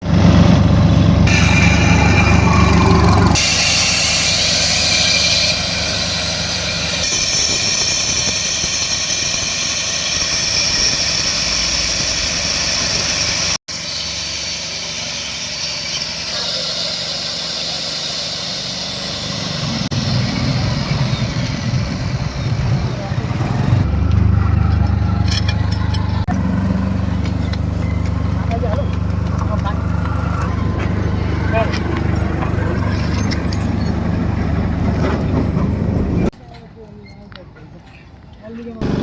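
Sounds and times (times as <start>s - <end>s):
core drill engine: 0.0s - 36.3s
core bit cutting asphalt whine: 0.0s - 36.4s.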